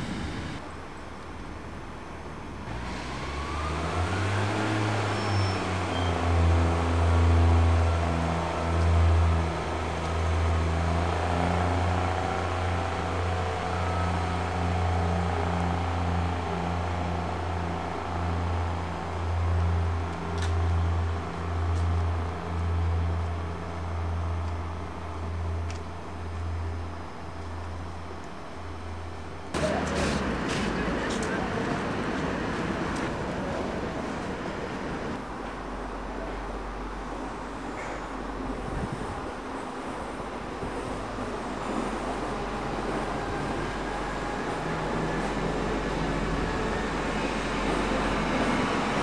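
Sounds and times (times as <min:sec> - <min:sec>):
diesel railbus engine droning: 0:00.0 - 0:49.0.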